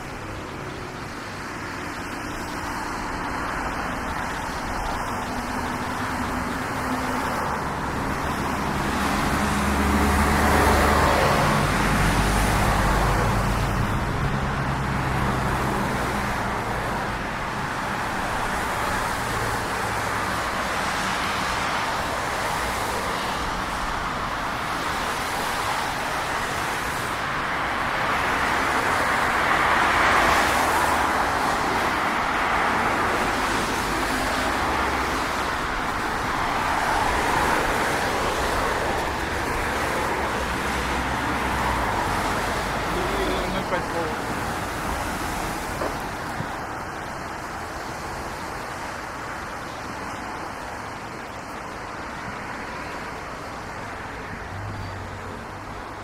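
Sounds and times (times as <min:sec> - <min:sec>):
passing vehicles: 0:00.0 - 0:56.0.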